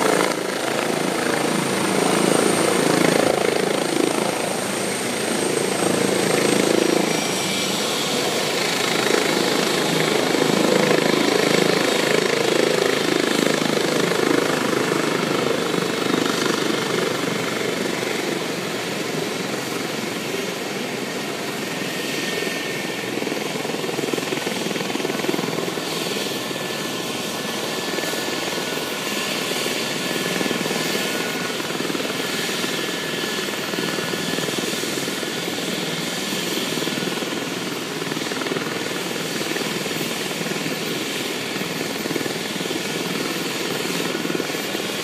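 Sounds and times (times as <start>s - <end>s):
helicopter rotor and engine: 0.0s - 45.0s.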